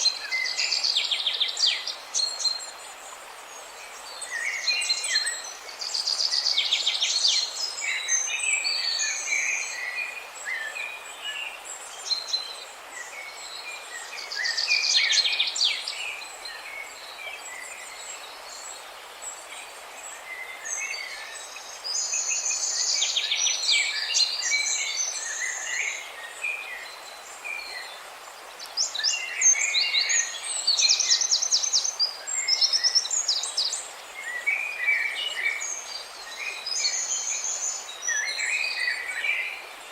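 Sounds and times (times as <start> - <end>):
background hiss: 0.0 - 39.9
songbirds chirping and trilling: 0.0 - 39.9.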